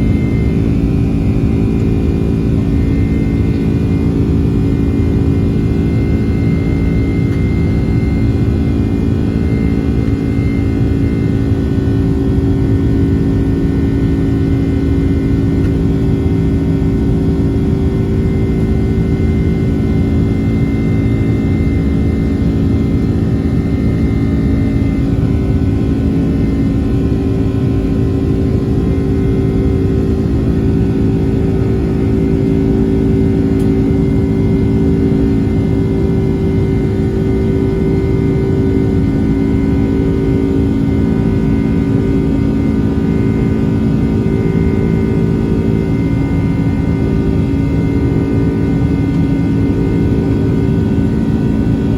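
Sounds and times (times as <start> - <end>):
jet engine cabin drone: 0.0 - 51.9.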